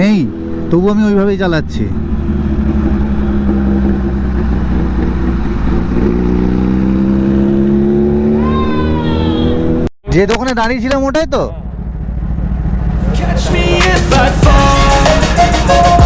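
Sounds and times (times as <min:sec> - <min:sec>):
motorcycle engine cruising: 0:00.0 - 0:09.9, 0:10.9 - 0:16.0.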